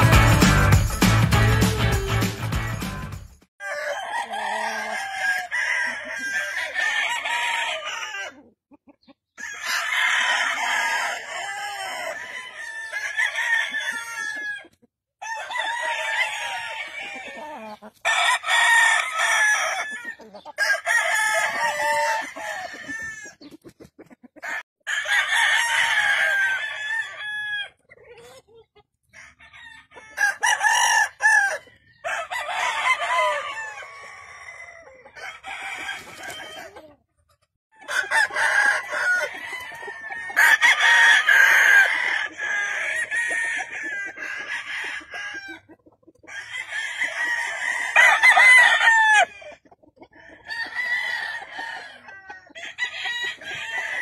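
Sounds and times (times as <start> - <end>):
roosters crowing: 3.6 - 8.4, 9.4 - 23.6, 24.4 - 27.9, 29.1 - 36.9, 37.7 - 54.0.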